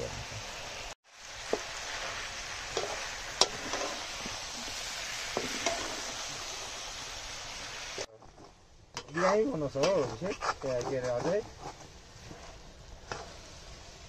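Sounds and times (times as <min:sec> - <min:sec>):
chicken sizzling in a wok: 0:00.0 - 0:08.1, 0:09.2 - 0:14.0.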